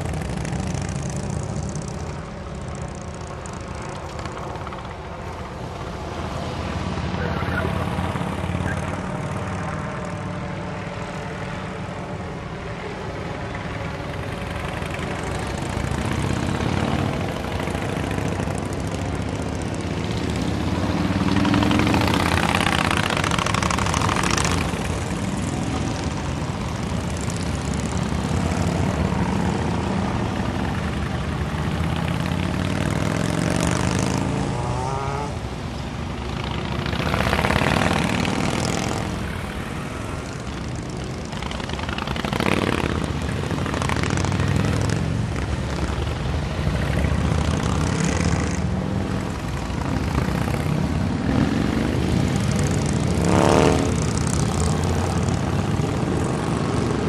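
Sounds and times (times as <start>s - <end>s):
motorcycles rumbling past: 0.0s - 57.0s.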